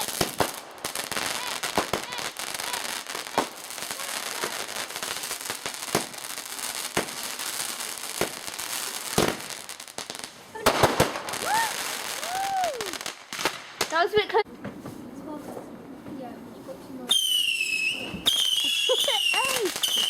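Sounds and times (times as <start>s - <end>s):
fireworks fizzing crackle: 0.0s - 14.8s, 16.7s - 20.0s
fireworks bangs: 0.0s - 14.9s, 17.1s - 20.0s.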